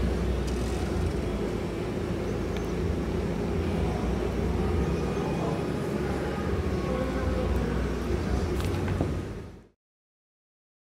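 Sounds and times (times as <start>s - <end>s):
propeller aircraft engine drone: 0.0s - 9.8s.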